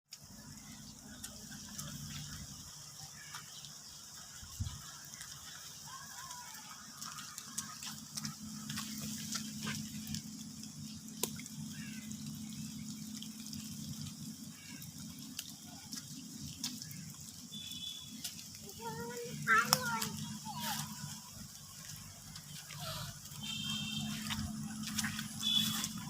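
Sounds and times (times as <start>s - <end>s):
drops and drips landing close by: 0.1s - 26.0s
rain: 0.1s - 26.0s.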